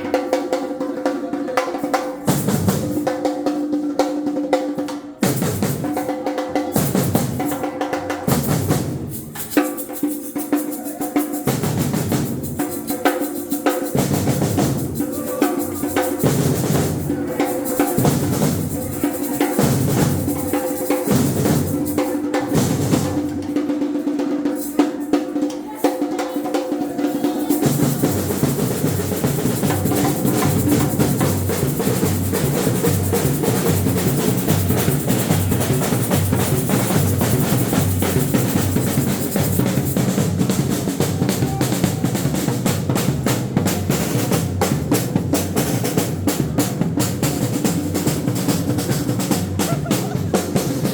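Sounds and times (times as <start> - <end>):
samba percussion ensemble: 0.0 - 50.9.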